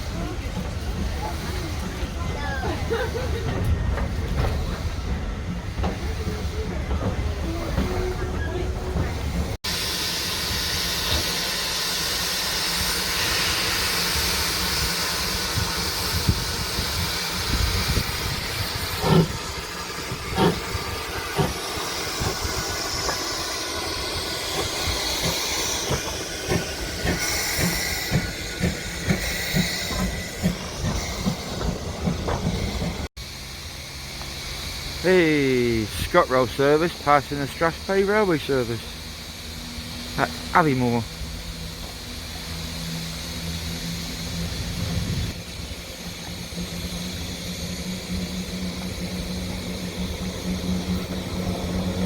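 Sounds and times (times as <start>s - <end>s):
train rumble and hiss: 0.0s - 52.0s.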